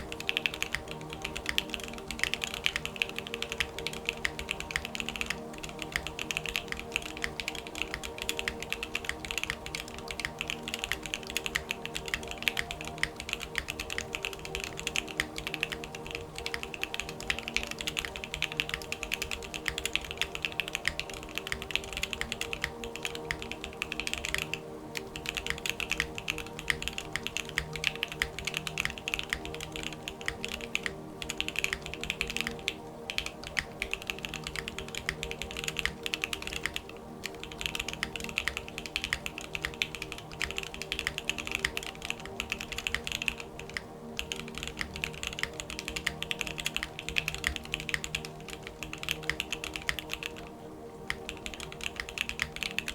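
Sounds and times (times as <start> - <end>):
fast mechanical keyboard typing: 0.0 - 50.5, 51.1 - 52.9.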